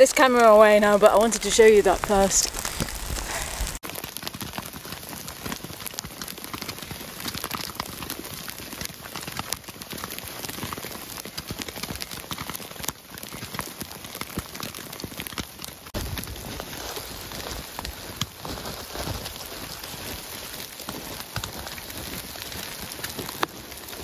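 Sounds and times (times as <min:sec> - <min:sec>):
hail and rain pattering: 0:00.0 - 0:24.0.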